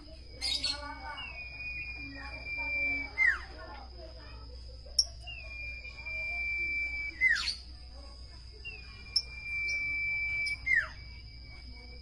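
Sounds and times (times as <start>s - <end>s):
bird whistling song: 0.0s - 3.8s, 5.0s - 7.8s, 8.5s - 12.0s
steady high-pitched tone: 0.0s - 12.0s.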